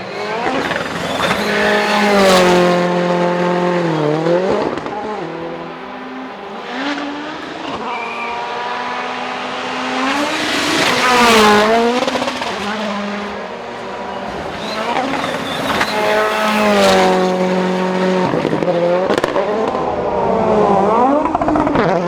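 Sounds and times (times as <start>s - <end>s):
car passing by: 0.0s - 21.1s
rally car engines revving: 0.0s - 22.0s.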